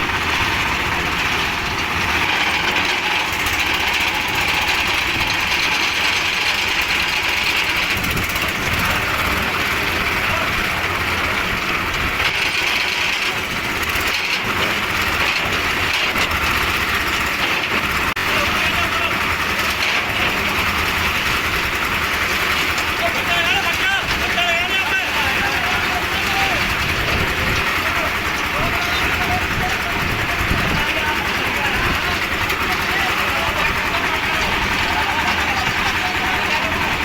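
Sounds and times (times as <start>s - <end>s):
concrete mixer engine running: 0.0s - 37.0s.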